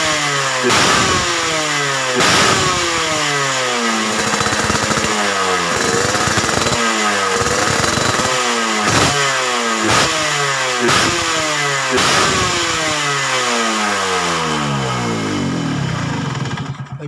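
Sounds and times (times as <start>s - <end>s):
motorcycle engine throttle blips: 0.0s - 17.0s.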